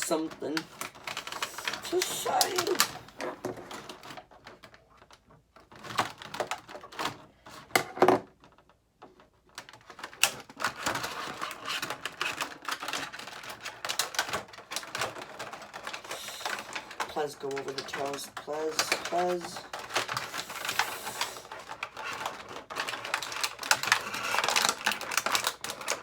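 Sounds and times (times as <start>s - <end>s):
plastic packaging crinkling: 0.0s - 26.0s.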